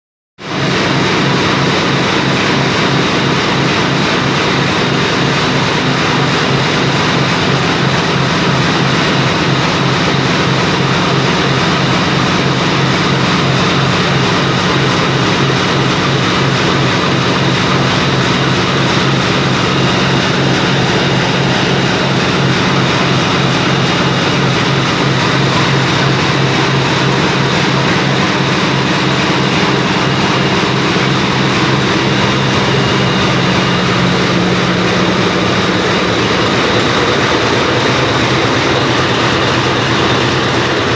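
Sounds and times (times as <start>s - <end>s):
diesel engine running: 0.4s - 40.9s.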